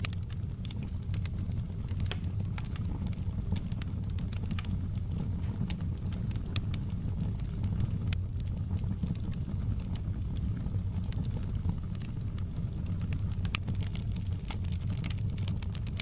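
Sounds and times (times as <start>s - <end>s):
fire pops and crackles: 0.0s - 16.0s
fireplace wood burning: 0.0s - 16.0s.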